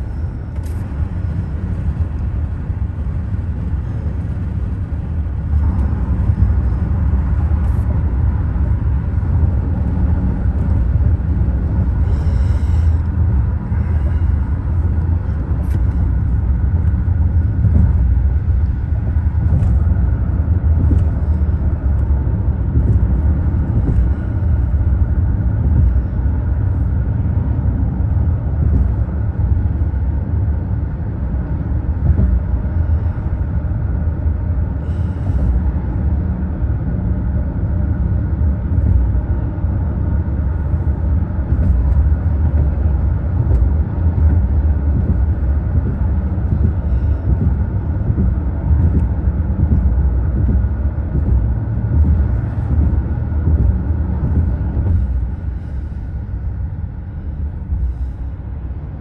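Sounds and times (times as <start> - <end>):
road rumble inside car: 0.0 - 59.0.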